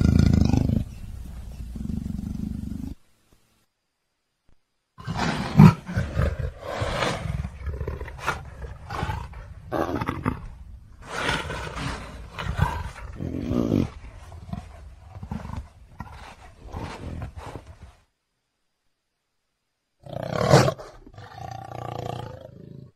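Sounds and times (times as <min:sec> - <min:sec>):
leopard roaring: 0:00.0 - 0:03.0, 0:05.0 - 0:17.9, 0:20.0 - 0:22.9.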